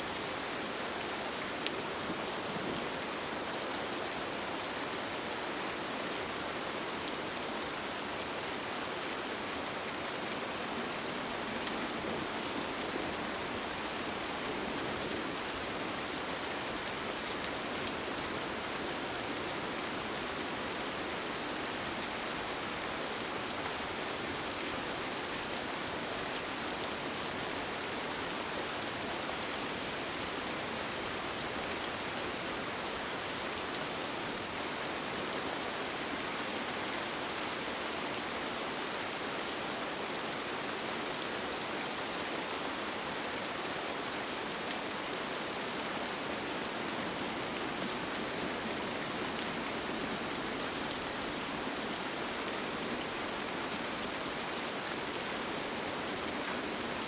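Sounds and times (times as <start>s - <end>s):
rain on a tent: 0.0s - 57.0s.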